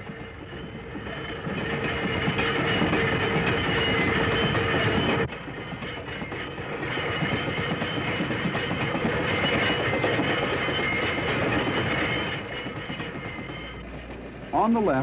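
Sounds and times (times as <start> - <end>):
electric tram rolling rumble: 0.0 - 15.0.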